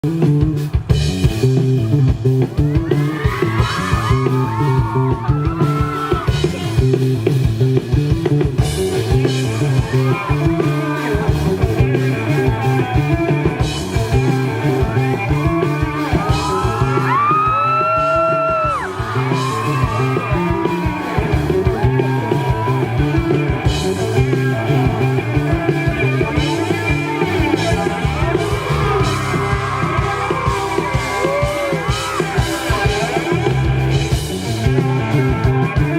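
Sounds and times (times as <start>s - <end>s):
gliding electric guitar lead: 0.0s - 35.9s
live rock band playing: 0.0s - 35.9s.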